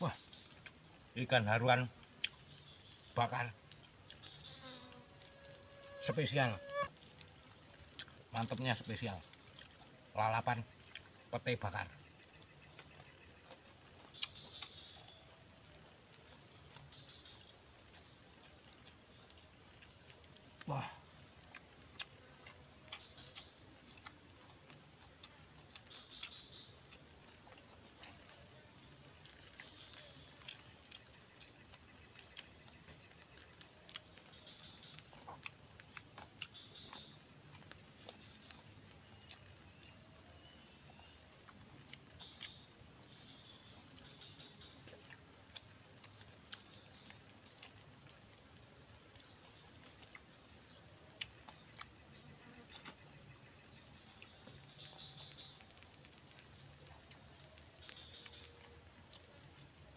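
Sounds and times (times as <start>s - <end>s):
insect chorus drone: 0.0s - 59.9s
faint clicks and ticks: 7.0s - 40.0s, 40.8s - 59.9s.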